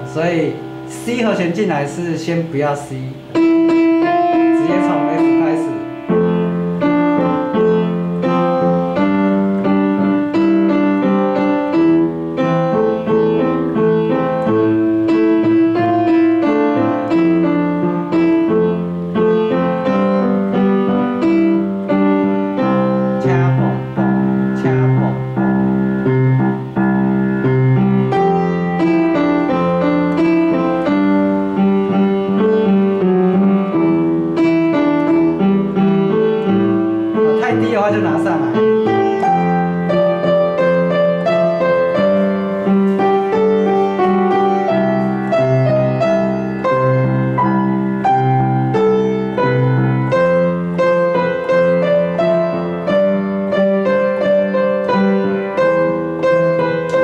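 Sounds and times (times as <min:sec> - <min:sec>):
piano melody with chord accompaniment: 0:00.0 - 0:57.0.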